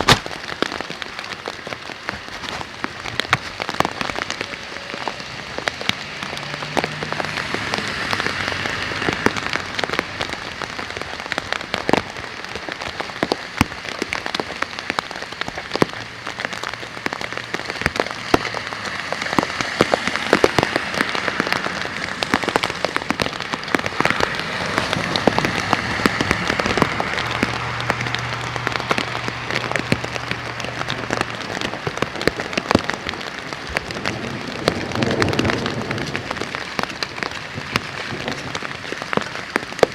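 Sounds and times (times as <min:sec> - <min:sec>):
heavy rain: 0:00.0 - 0:39.9
raindrops tapping close by: 0:00.0 - 0:39.9.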